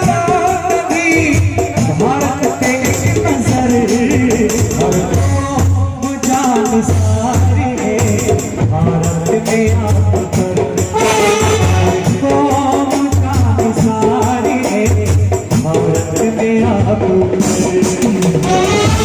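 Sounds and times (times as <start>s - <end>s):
steady drum beat: 0.0s - 19.0s.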